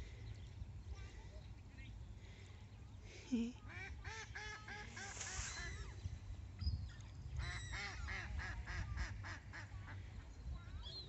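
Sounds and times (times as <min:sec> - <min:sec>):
waterbirds calling harsh notes: 0:00.0 - 0:11.0.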